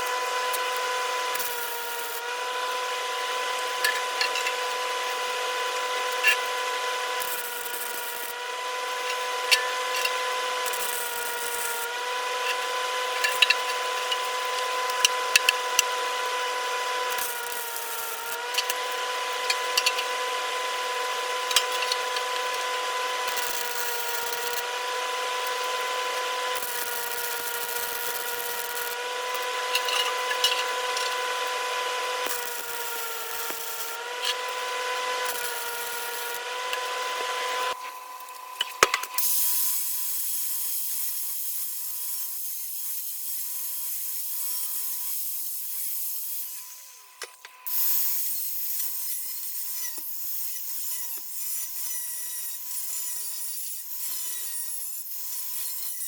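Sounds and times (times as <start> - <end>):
power tool whining: 0.0 - 56.0.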